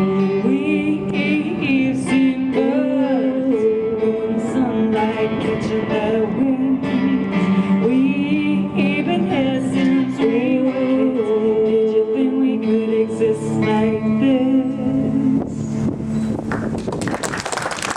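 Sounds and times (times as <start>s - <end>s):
women singing in harmony: 0.0s - 15.7s.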